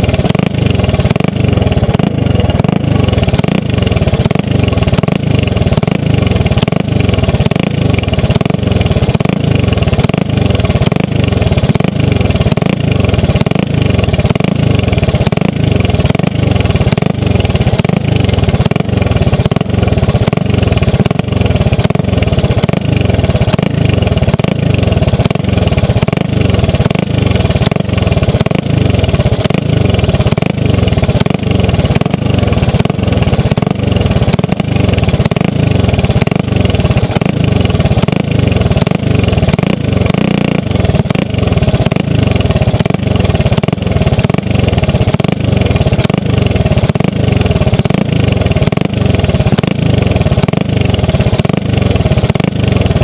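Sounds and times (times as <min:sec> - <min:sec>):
kart engine idling: 0:00.0 - 0:53.0.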